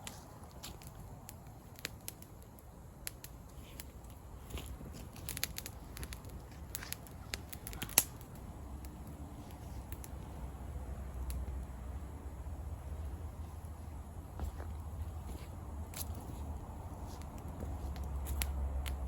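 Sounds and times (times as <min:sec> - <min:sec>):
campfire crackling: 0:00.0 - 0:19.0
low steady rumble: 0:02.7 - 0:19.0.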